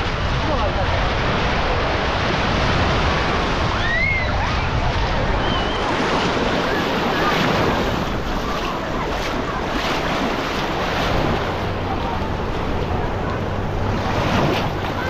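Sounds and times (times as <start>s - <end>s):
waves washing onto beach: 0.0s - 15.0s
wind buffeting microphone: 0.0s - 15.0s.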